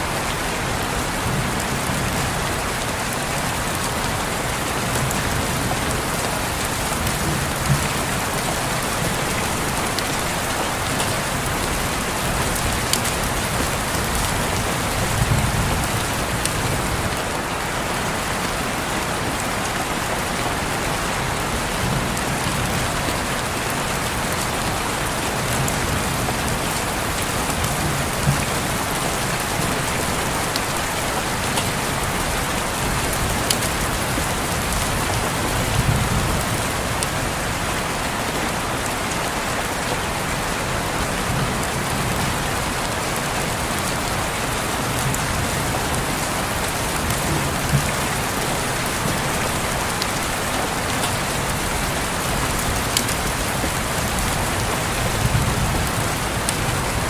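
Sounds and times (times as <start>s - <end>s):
rain pattering on a window: 0.0s - 57.0s.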